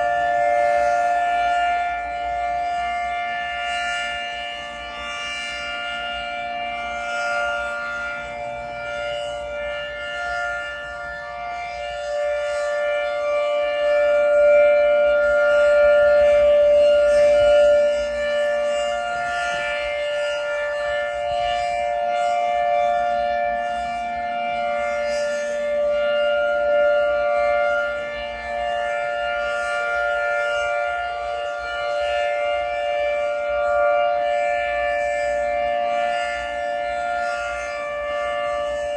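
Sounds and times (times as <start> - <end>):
rotating air raid siren: 0.0 - 38.9.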